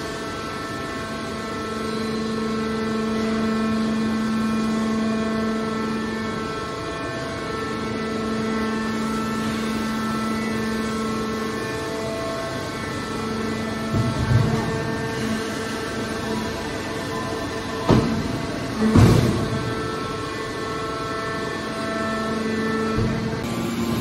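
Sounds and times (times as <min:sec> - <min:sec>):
hydraulic machine hum: 0:00.0 - 0:24.0.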